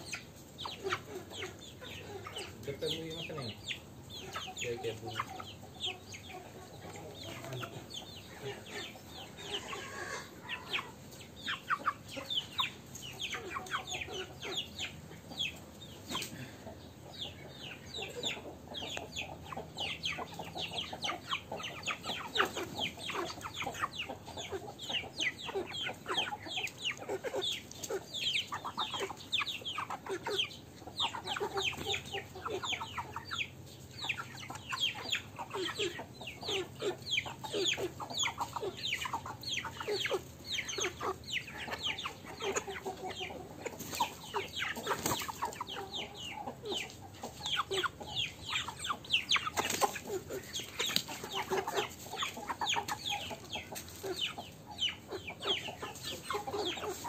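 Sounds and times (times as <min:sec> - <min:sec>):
chickens clucking: 0:00.0 - 0:57.0
chicks peeping: 0:00.0 - 0:57.0.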